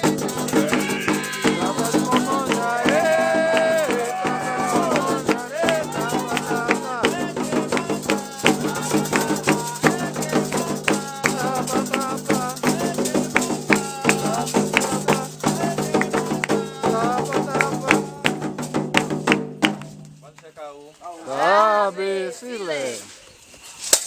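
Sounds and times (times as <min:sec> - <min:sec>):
voices singing: 0:00.0 - 0:19.1, 0:21.0 - 0:23.1
rapid drum and rattle percussion: 0:00.0 - 0:20.4.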